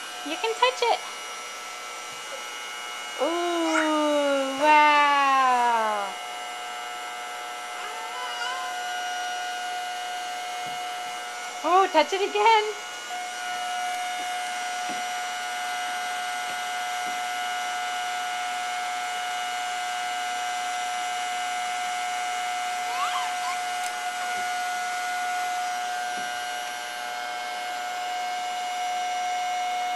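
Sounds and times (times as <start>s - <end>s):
vacuum cleaner motor whine: 0.0s - 29.9s.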